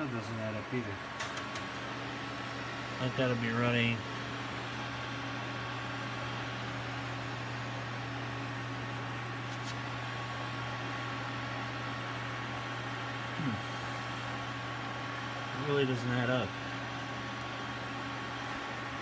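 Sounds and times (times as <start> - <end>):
computer fans and drives humming: 0.0 - 19.0.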